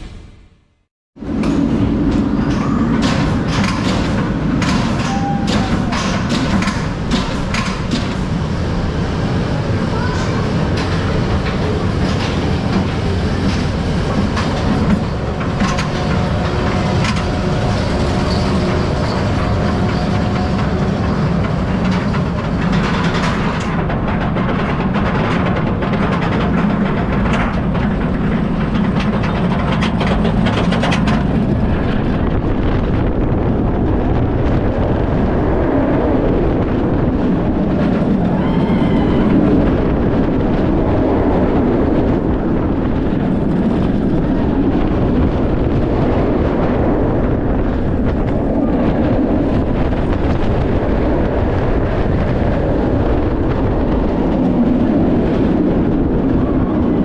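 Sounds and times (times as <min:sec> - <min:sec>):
roller coaster chain lift rattling: 0:01.3 - 0:57.0.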